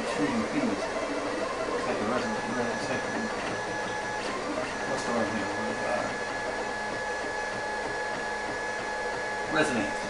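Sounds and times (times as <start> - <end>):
printer motors buzzing: 0.0 - 10.0.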